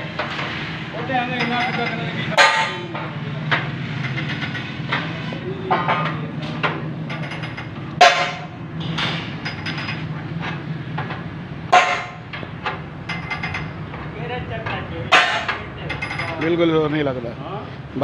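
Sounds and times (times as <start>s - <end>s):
steady low hum: 0.0s - 18.0s
metal clanks and rattles: 0.2s - 17.0s.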